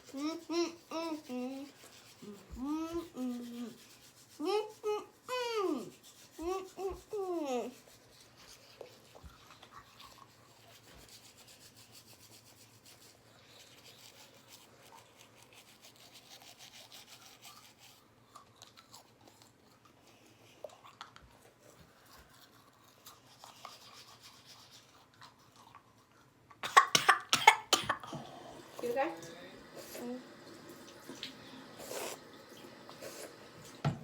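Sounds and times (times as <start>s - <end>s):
toothbrush scrubbing teeth: 0.0s - 33.8s.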